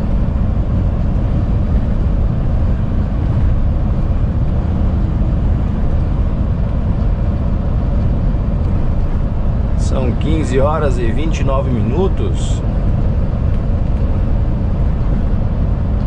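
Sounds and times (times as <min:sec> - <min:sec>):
road noise: 0:00.0 - 0:16.0
truck engine rumble: 0:00.0 - 0:16.0.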